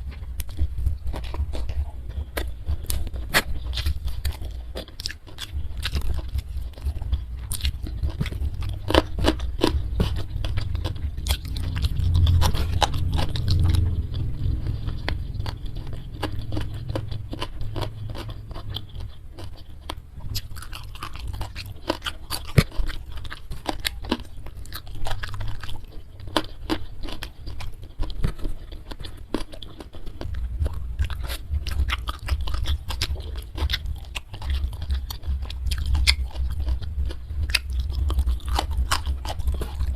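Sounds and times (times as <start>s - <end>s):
chewing and crunching food: 0.0s - 39.9s
low rumble: 0.0s - 39.9s
sharp clicks and crackles: 0.1s - 39.9s.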